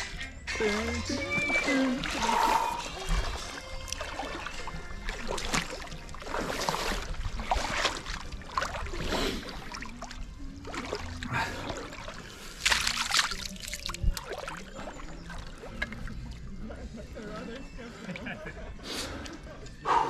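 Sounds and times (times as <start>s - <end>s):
water sloshing and splashing: 0.1s - 18.2s.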